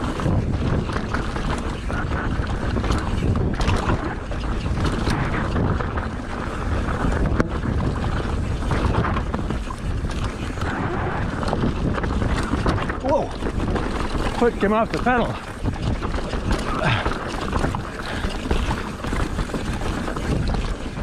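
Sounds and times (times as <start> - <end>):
bike knocks and rattles: 0.0 - 21.0
tyres rolling over dirt: 0.0 - 21.0
wind buffeting microphone: 0.0 - 21.0.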